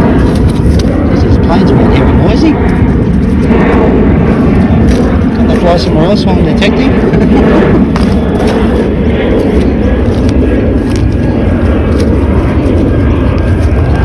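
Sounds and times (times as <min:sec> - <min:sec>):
airplane flying overhead: 0:00.0 - 0:14.0.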